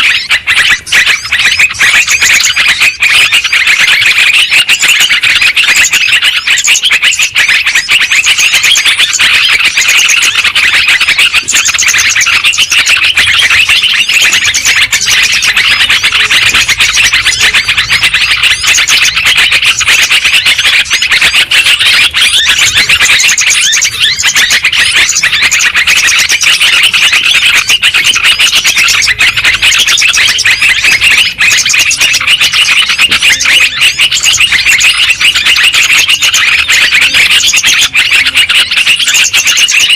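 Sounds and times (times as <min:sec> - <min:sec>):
bulbuls calling in chorus: 0:00.0 - 0:39.9.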